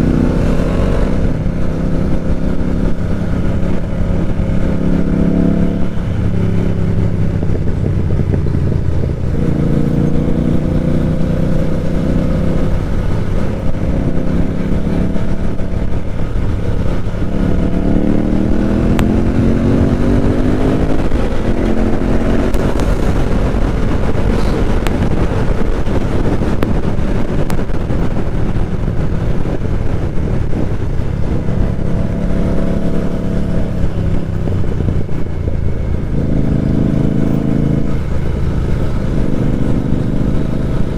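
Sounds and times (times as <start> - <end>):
motorcycle engine revving: 0.0 - 40.9
wind rush on microphone: 0.0 - 40.9.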